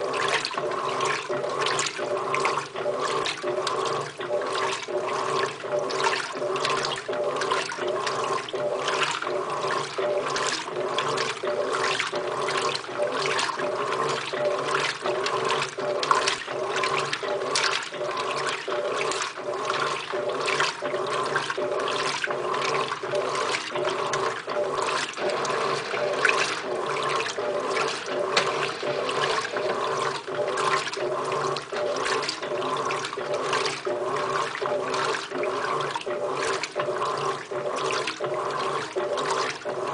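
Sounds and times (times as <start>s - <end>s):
motor hum: 0.0s - 39.9s
washing machine agitator swishing water: 0.0s - 39.9s.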